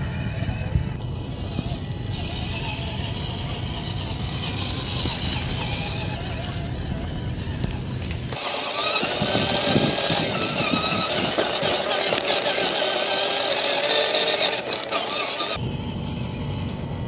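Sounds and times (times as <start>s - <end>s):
toy truck motor whining: 0.0s - 17.0s.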